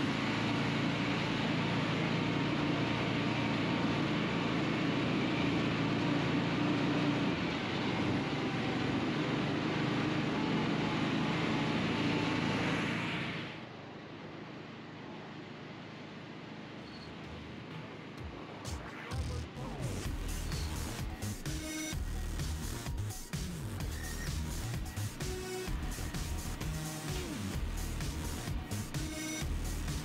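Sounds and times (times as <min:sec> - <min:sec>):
rush of driving noise: 0:00.0 - 0:30.0
vehicle engine running: 0:00.0 - 0:30.0.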